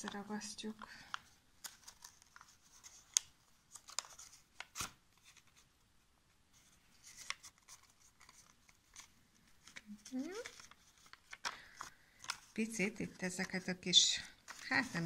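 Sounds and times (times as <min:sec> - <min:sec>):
paper rustling and crinkling: 0:00.0 - 0:05.7, 0:06.5 - 0:15.0.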